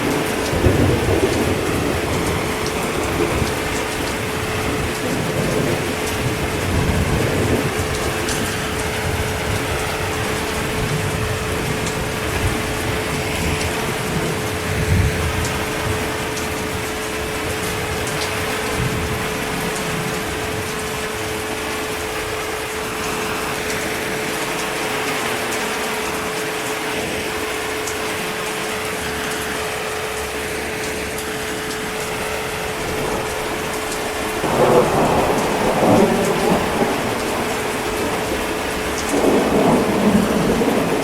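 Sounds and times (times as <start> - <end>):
heavy rain falling: 0.0 - 41.0
thunder rumble: 0.0 - 41.0.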